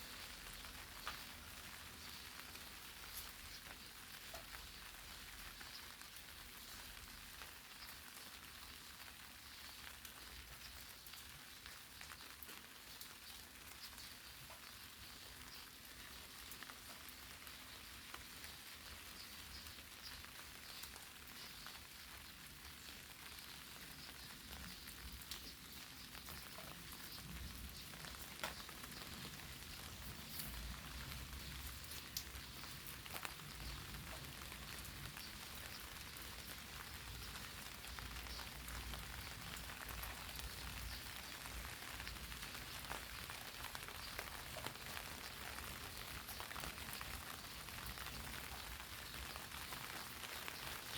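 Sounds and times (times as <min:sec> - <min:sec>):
light rain on leaves: 0:00.0 - 0:50.9.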